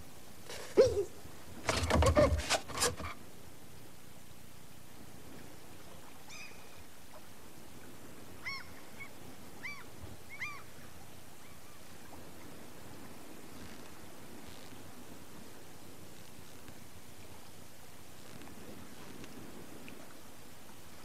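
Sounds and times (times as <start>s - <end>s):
tape hiss: 0.0s - 1.7s, 2.9s - 21.0s.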